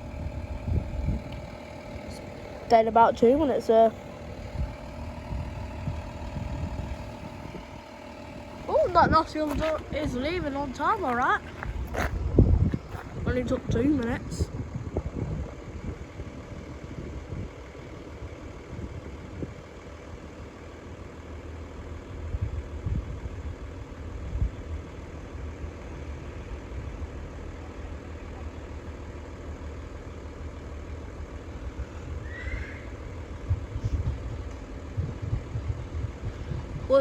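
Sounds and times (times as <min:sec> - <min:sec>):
diesel train engine rumble: 0:00.0 - 0:37.0.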